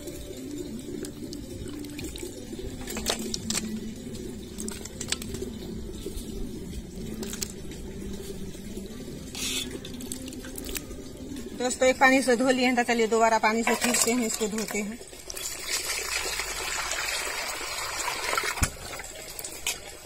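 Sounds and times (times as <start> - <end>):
water sloshing in steel basin: 0.0 - 20.0.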